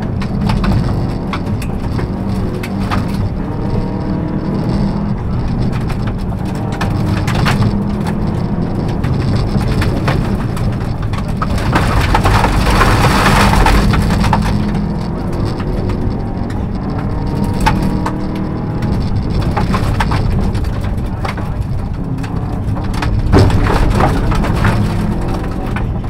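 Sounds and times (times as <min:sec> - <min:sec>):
gravel crunching under tyres: 0:00.0 - 0:26.0
rally car engine running hard: 0:00.0 - 0:26.0
stones clattering on underside: 0:00.0 - 0:26.0.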